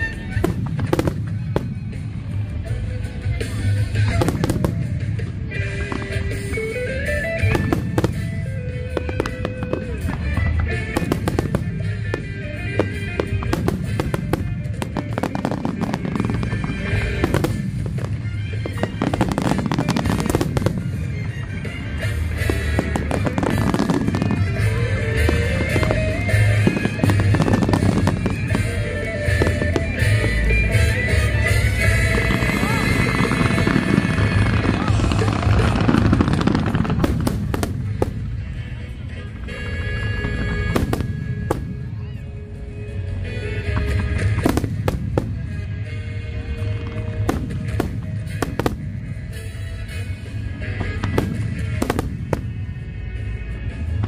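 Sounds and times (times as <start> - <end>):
fireworks bangs and crackling: 0.0 - 54.0
music playing: 0.0 - 54.0.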